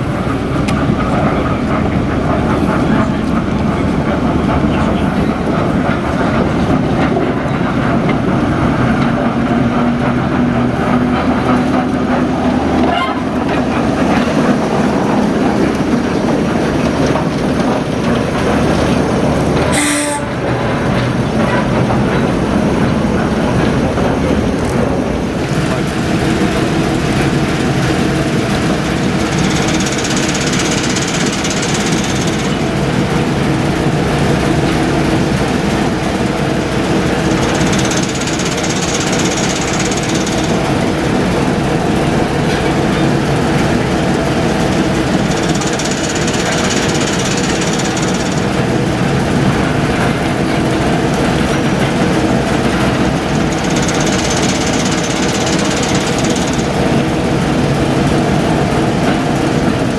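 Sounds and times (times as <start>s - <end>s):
diesel locomotive idling: 0.0s - 59.9s.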